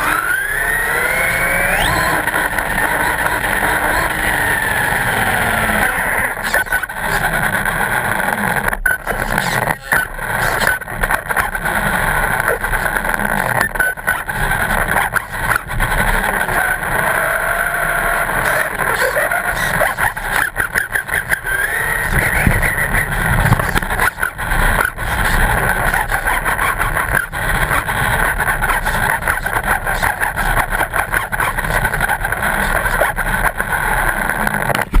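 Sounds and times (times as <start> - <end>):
car engine running: 0.0 - 35.0
wind and road rumble: 0.0 - 35.0.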